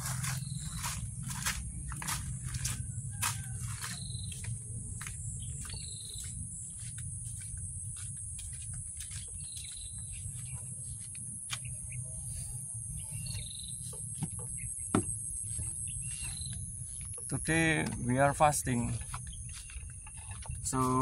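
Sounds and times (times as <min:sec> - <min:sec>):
crickets shrilling: 0:00.0 - 0:08.4, 0:09.3 - 0:21.0
bird chirps: 0:00.0 - 0:21.0
footsteps crunching on gravel: 0:00.0 - 0:21.0.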